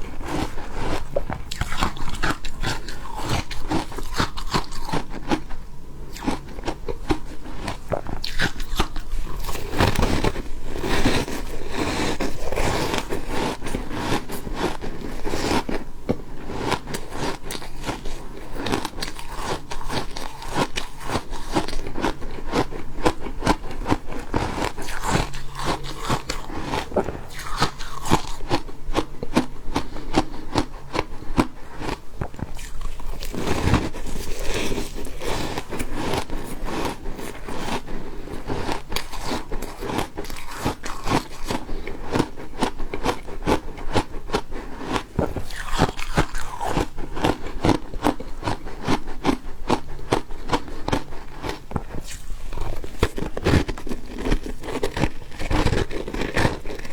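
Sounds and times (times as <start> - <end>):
ice being chewed: 0.0 - 56.9.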